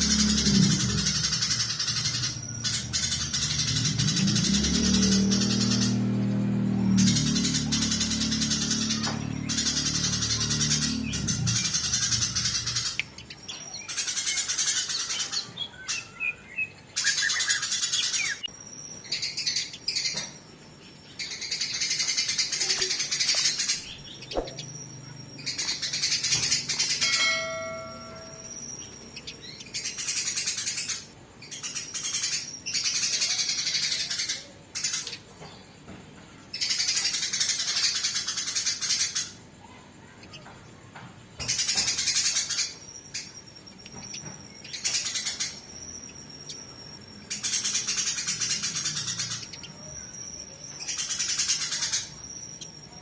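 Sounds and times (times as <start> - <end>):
sparrows chattering harshly: 0.0 - 53.0.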